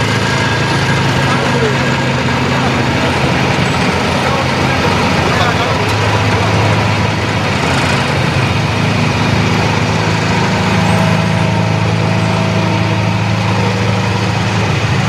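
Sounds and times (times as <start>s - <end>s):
vibratory pile hammer drone: 0.0s - 15.0s.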